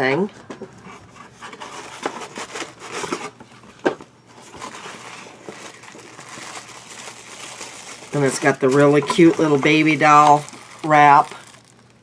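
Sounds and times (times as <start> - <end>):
paper packaging rustling: 1.2 - 12.0.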